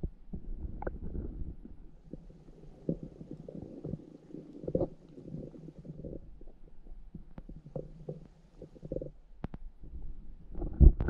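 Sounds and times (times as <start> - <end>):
muffled underwater rumbling: 0.0 - 11.0.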